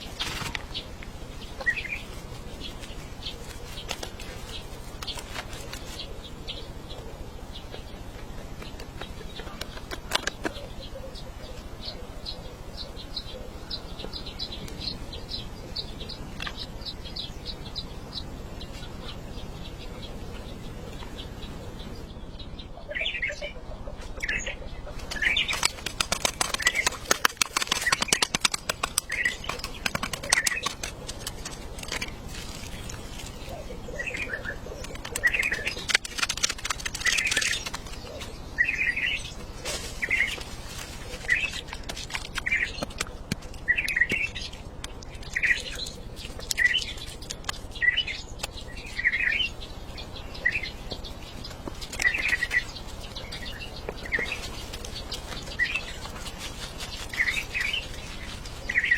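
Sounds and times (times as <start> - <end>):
bird chirping: 0.0 - 58.9.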